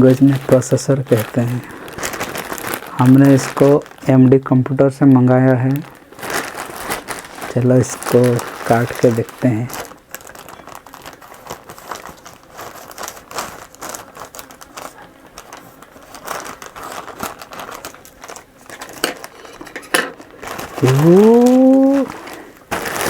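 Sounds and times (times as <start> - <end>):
packaging crinkling and rustling: 0.0 - 23.0.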